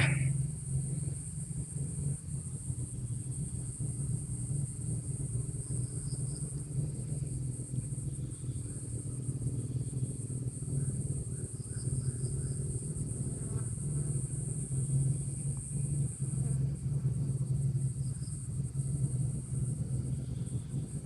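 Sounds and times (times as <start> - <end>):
insects droning: 0.0 - 21.0
low steady rumble: 0.0 - 21.0.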